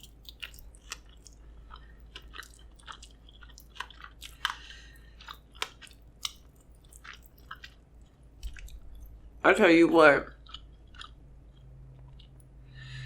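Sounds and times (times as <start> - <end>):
close chewing with wet smacks: 0.0 - 9.4, 10.3 - 12.6.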